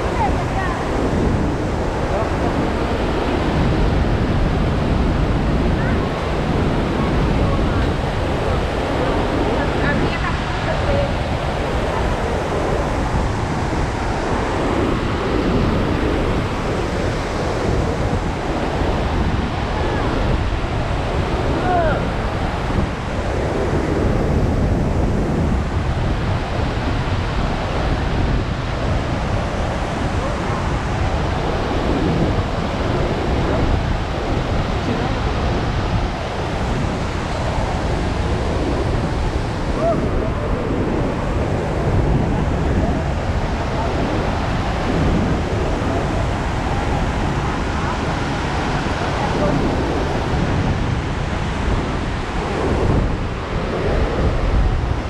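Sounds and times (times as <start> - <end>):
waterfall rushing: 0.0 - 23.8, 25.7 - 52.6
white-water rapids: 0.0 - 23.8, 24.6 - 55.0.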